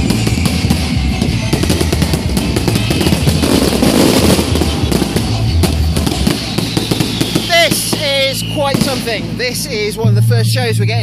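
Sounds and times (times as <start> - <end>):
fireworks crackling and banging: 0.0 - 10.0
loud music over sound system: 0.0 - 11.0.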